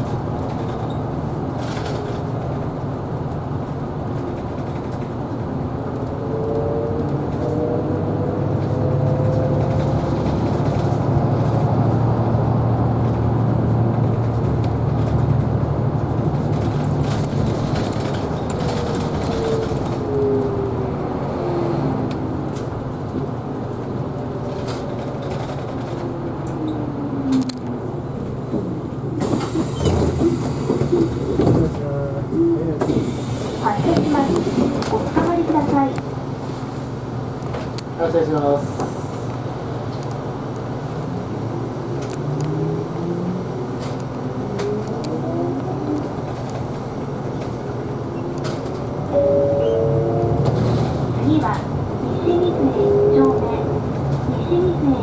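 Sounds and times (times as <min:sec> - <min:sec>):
bus engine drone and whine: 0:00.0 - 0:55.0.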